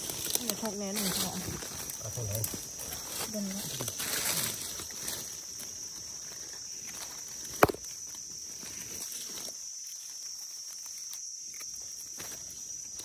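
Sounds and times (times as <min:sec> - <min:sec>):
dry leaves rustling: 0:00.0 - 0:13.0
high insect drone: 0:00.0 - 0:13.0.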